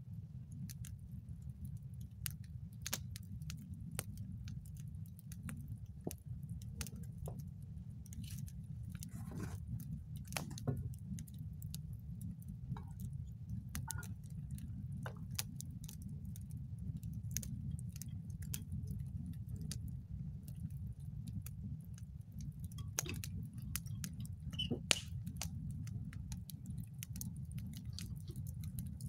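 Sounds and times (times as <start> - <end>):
campfire crackling: 0.0 - 29.0
low rumble of fire: 0.0 - 29.0.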